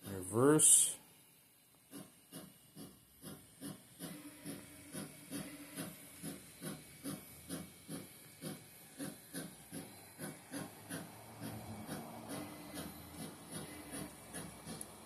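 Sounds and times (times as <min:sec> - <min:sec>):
model locomotive chuffing: 0:01.9 - 0:15.0.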